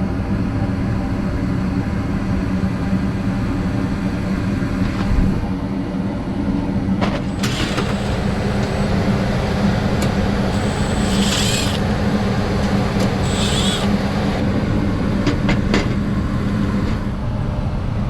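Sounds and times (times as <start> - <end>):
furnace fan and burners humming: 0.0 - 18.0.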